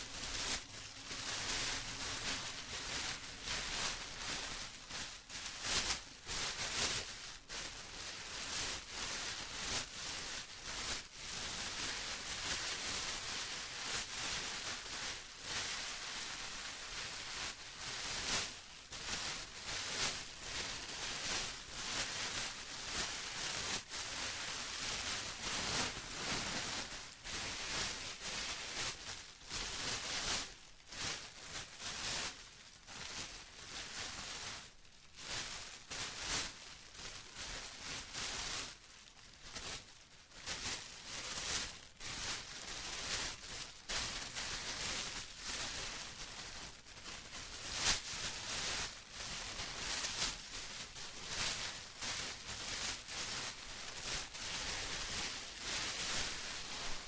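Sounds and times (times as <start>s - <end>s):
plastic crinkling: 0.0s - 57.0s.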